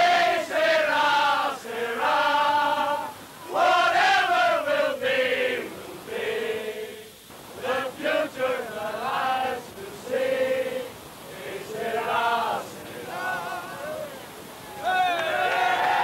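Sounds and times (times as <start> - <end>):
men singing a chant: 0.0 - 14.2.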